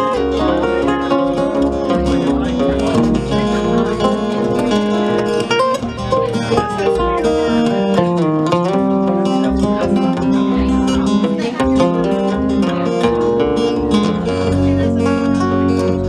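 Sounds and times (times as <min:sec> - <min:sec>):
acoustic guitar lead melody: 0:00.0 - 0:16.0
strummed acoustic guitar chords: 0:00.0 - 0:16.0.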